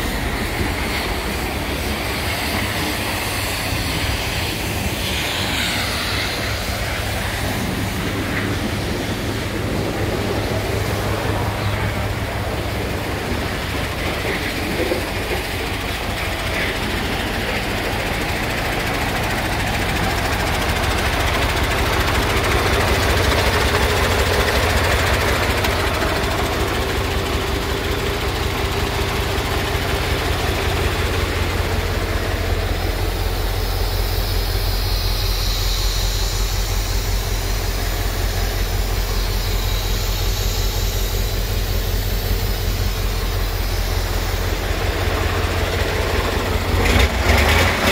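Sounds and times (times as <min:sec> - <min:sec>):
diesel truck engine idling: 0:00.0 - 0:47.9.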